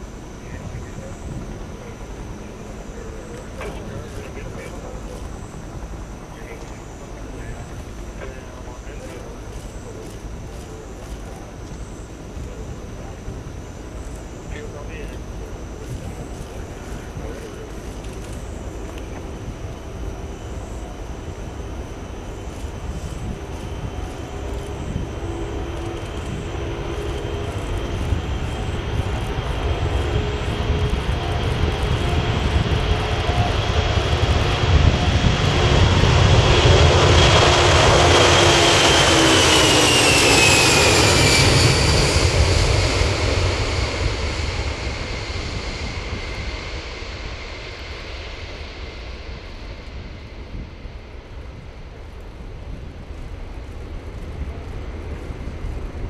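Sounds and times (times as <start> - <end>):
jet engines at takeoff power: 0.0 - 56.0.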